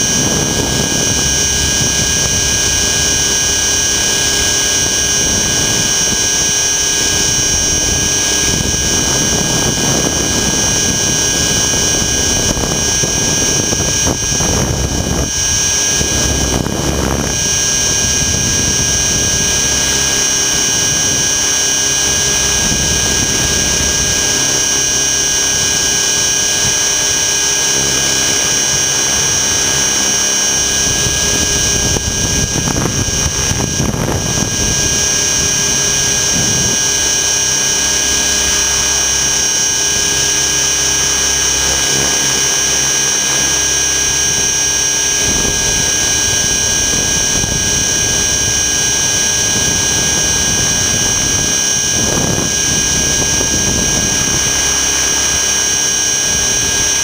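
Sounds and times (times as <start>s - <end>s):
electric motor high whine: 0.0s - 57.0s
rotor and wind noise: 0.0s - 57.0s
rumble gust: 0.0s - 57.0s.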